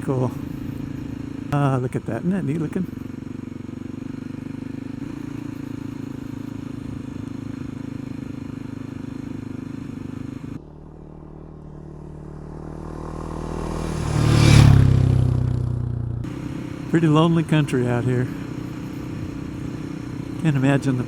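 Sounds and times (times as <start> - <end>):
motorcycle approaching: 0.0 - 21.0
motorcycle engine running: 0.0 - 21.0.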